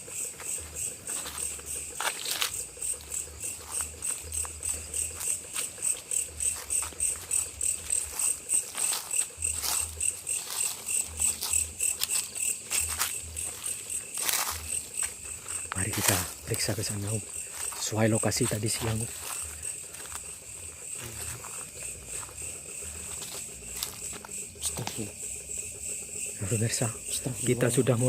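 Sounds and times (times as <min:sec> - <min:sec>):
insects chirping rhythmically: 0:00.0 - 0:28.0.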